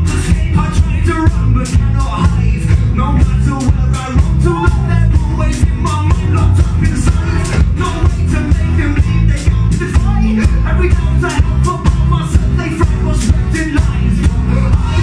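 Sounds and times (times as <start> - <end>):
drum beat: 0.0 - 15.0
person singing: 0.0 - 15.0
rock band playing: 0.0 - 15.0.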